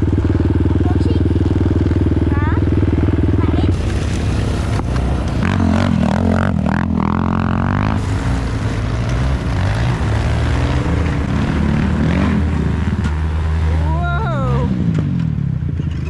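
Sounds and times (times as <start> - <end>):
small engine droning: 0.0 - 16.0.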